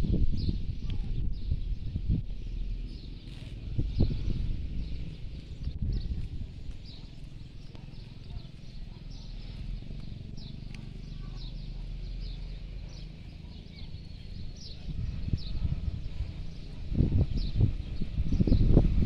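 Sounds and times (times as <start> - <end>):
birds chirping: 0.0 - 19.0
low steady rumble: 0.0 - 19.0.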